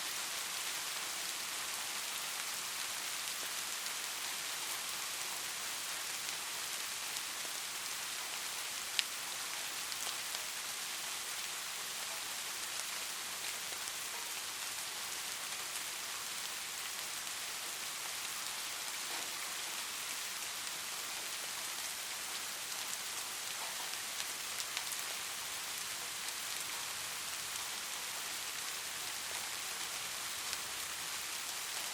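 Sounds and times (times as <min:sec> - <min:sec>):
light rain hissing: 0:00.0 - 0:31.9
raindrops ticking on a surface: 0:00.1 - 0:31.9.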